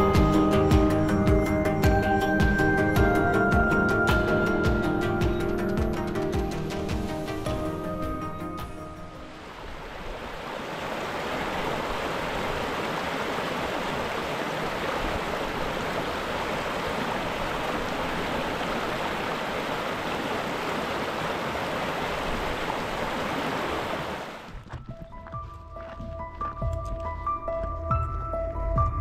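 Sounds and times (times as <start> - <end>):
stream water rushing: 0.0 - 24.6.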